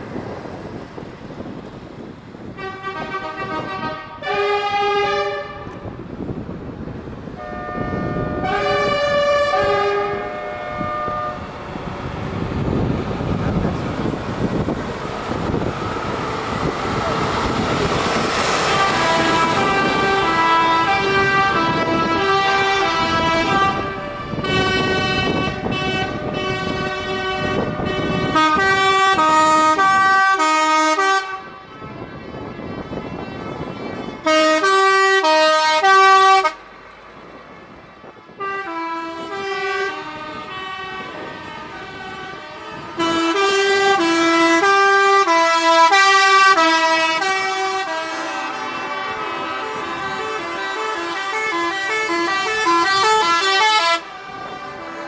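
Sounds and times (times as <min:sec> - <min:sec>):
diesel engines: 0:00.0 - 0:55.0
tyres on road: 0:00.0 - 0:55.0
musical truck air horns: 0:02.5 - 0:06.0, 0:07.4 - 0:11.8, 0:14.6 - 0:36.6, 0:38.2 - 0:55.0.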